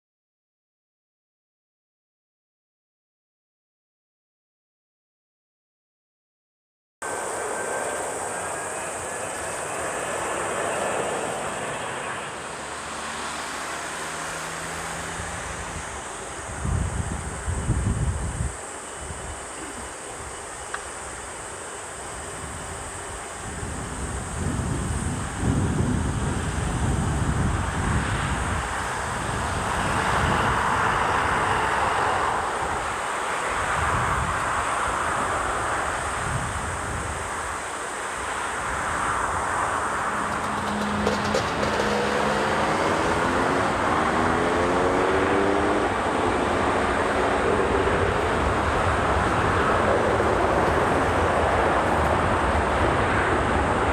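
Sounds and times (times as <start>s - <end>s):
jet airliner engine roar: 7.0s - 53.9s
wind gusting on microphone: 7.1s - 53.9s.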